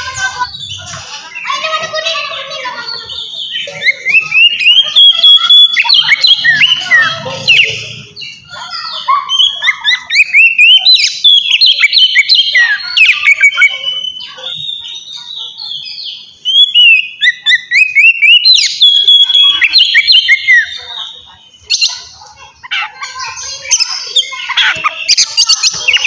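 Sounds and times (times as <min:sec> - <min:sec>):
magpie-robin singing: 0:00.0 - 0:26.0.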